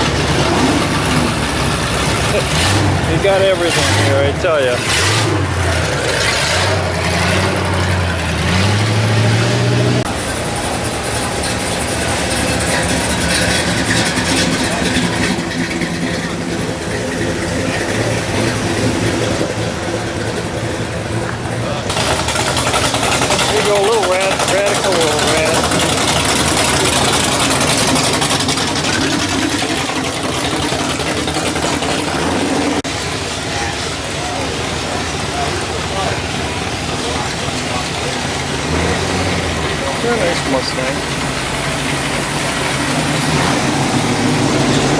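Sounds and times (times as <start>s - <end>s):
engine idling drone: 0.0s - 44.9s.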